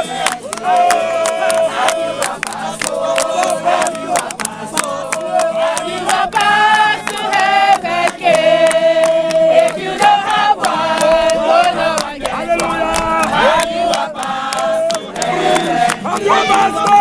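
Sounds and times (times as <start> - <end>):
crowd singing in chorus: 0.0 - 17.0
hand claps: 0.0 - 17.0.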